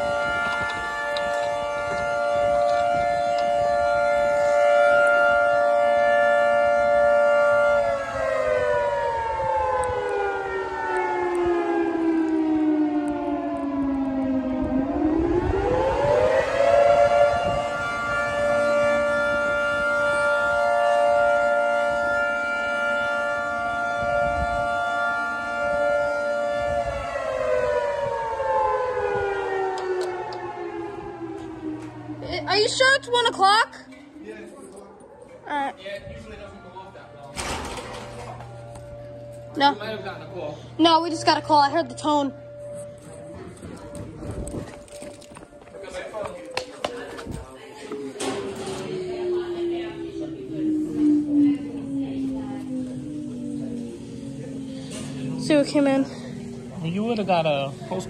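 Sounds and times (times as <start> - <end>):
siren wailing: 0.0 - 58.0.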